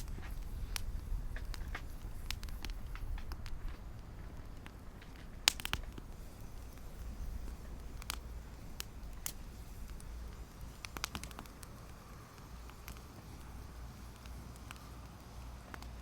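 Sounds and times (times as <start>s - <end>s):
campfire crackling and popping: 0.0s - 16.0s
low steady rumble: 0.0s - 16.0s.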